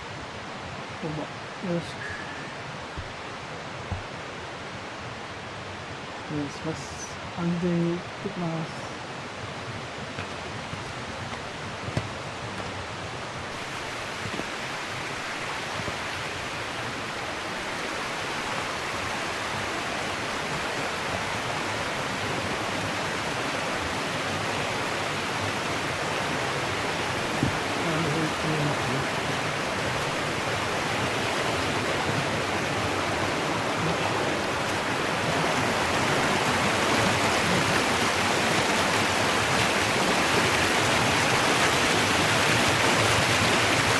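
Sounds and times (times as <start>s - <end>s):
rushing stream and waterfalls: 0.0s - 43.9s.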